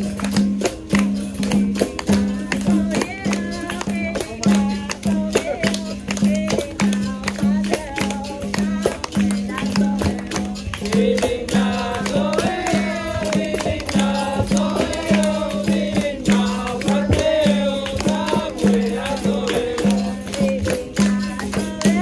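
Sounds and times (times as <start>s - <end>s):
hand percussion: 0.0s - 22.0s
person singing: 2.2s - 22.0s.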